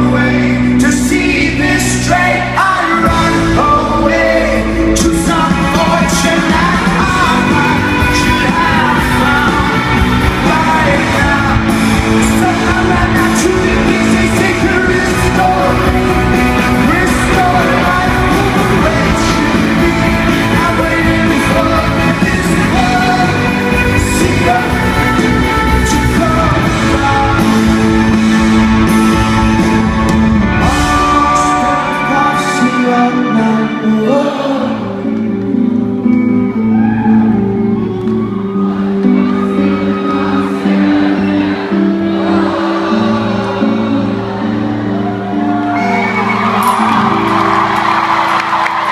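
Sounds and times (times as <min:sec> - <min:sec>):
person singing: 0:00.0 - 0:48.9
rock band playing live: 0:00.0 - 0:48.9.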